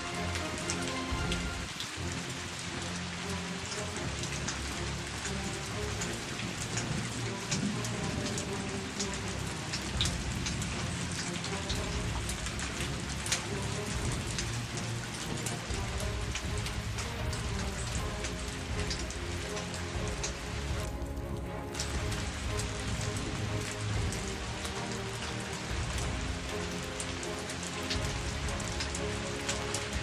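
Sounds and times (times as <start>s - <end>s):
close raindrop hits: 0.0s - 30.0s
heavy rain pouring: 0.0s - 30.0s.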